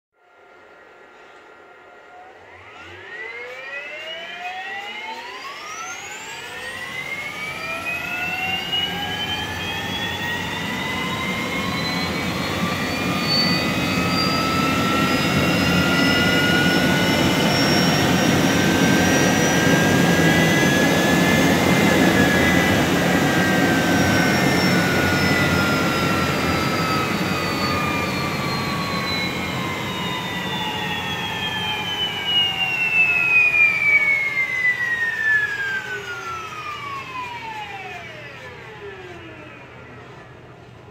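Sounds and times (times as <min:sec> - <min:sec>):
electric motor whining: 0:05.8 - 0:39.6.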